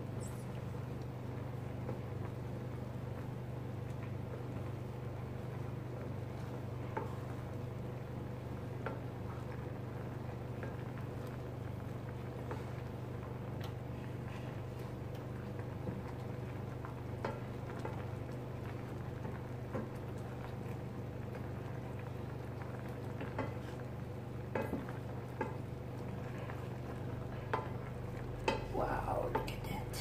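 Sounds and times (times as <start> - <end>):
sauce simmering: 0.0 - 30.0
steady low hum: 0.0 - 30.0
wooden spoon stirring: 3.8 - 30.0.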